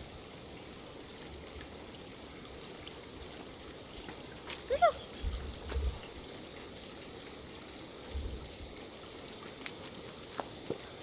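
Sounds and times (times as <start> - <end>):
insects droning: 0.0 - 11.0
steady hiss: 0.0 - 11.0.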